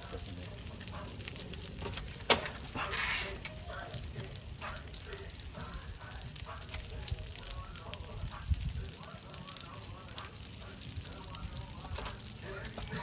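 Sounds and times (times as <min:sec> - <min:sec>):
burgers sizzling: 0:00.0 - 0:13.0.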